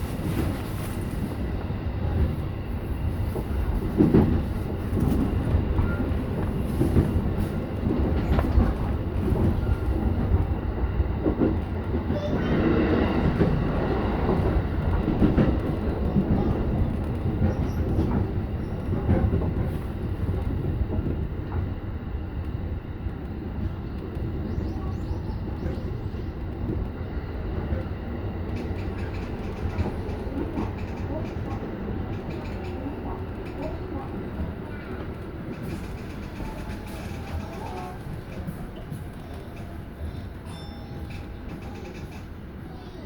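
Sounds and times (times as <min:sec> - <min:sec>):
electric train rumbling on track: 0:00.0 - 0:43.0.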